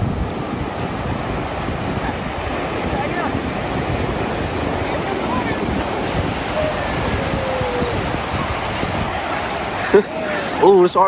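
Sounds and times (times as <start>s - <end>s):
wind buffeting microphone: 0.0s - 10.7s
ocean surf rushing: 0.0s - 11.0s.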